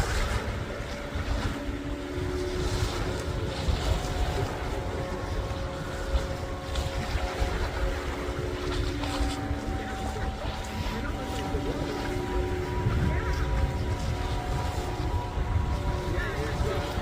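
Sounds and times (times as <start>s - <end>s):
distant motorboat engine drone: 0.0s - 17.0s
wind rumbling on microphone: 0.0s - 17.0s.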